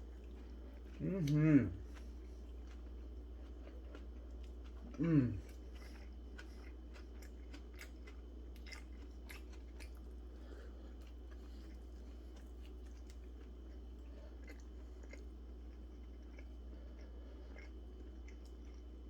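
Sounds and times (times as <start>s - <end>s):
person chewing: 0.0s - 19.0s
steady low hum: 0.0s - 19.0s.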